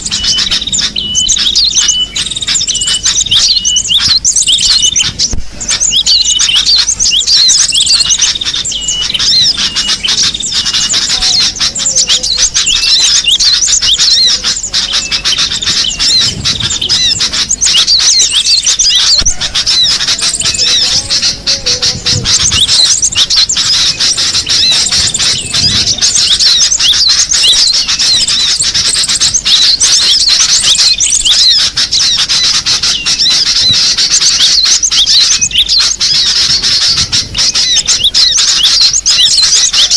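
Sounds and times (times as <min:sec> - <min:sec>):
bird chattering high notes: 0:00.0 - 0:39.9.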